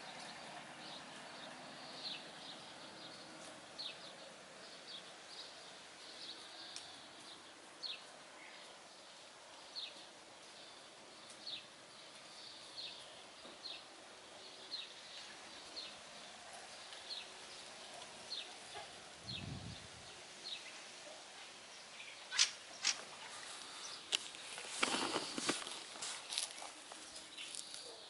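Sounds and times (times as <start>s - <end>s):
faint outdoor hiss: 0.0s - 28.0s.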